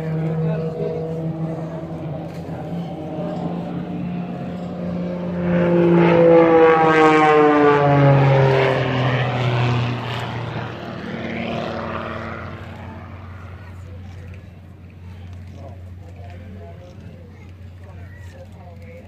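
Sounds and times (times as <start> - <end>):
propeller plane flying past: 0.0 - 19.0.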